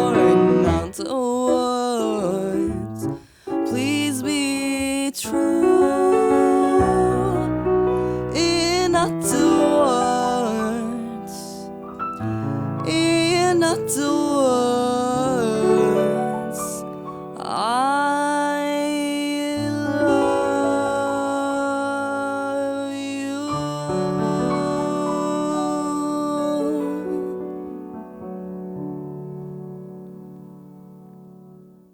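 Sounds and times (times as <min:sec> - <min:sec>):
slow piano chords: 0:00.0 - 0:31.9.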